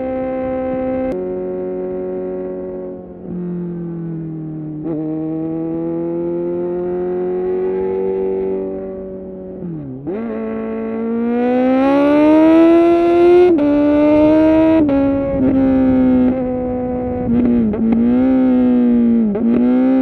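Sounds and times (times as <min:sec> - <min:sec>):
gear shifts with throttle blips: 0:00.0 - 0:20.0
motorcycle engine revving: 0:00.0 - 0:20.0.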